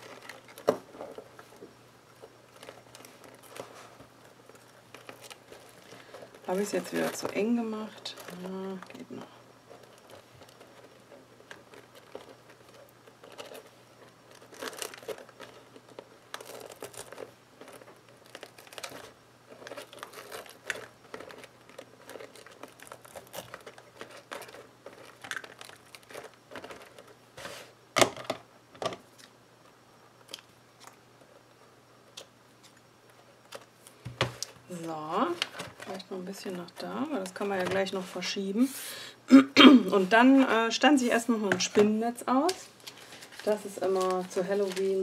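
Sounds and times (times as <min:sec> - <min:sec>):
ribbon crinkling and rustling: 0:00.0 - 0:29.4, 0:30.2 - 0:38.7, 0:39.9 - 0:45.0.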